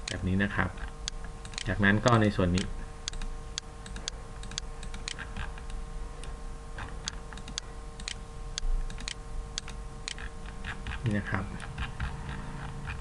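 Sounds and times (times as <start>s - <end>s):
faint steady hum: 0.0s - 13.0s
computer mouse clicking: 1.4s - 8.2s, 8.9s - 13.0s.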